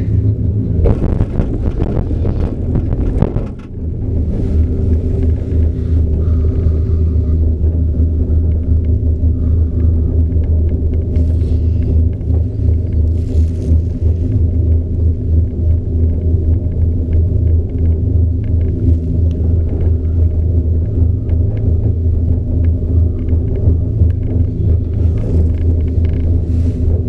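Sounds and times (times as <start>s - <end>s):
gondola cabin low rumble and hum: 0.0s - 27.0s.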